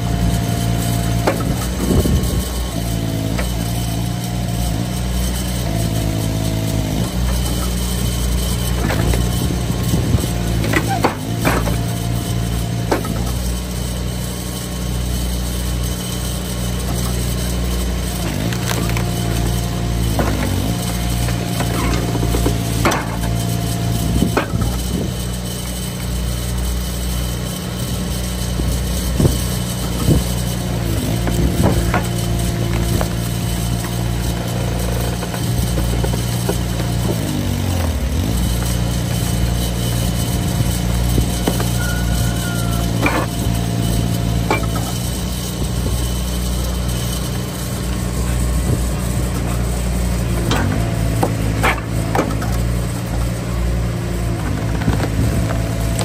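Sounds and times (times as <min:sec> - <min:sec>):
wood splitter engine running: 0:00.0 - 0:56.0.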